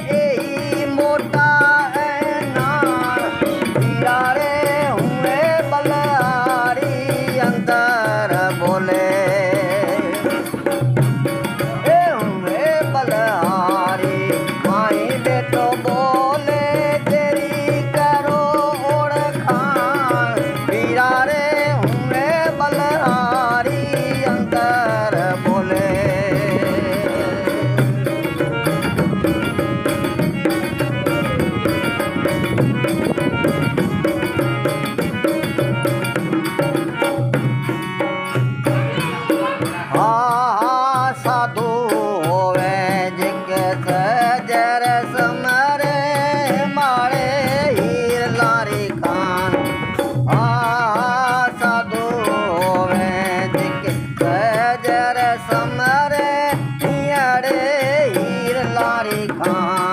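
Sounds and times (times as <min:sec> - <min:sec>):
hand drum rhythm: 0:00.0 - 0:59.9
ornamented melodic line: 0:00.1 - 0:59.9.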